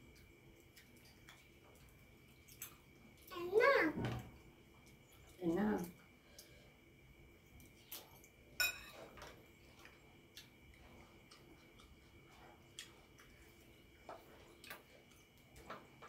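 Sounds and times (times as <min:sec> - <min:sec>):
quiet eating sounds: 0:00.0 - 0:16.0.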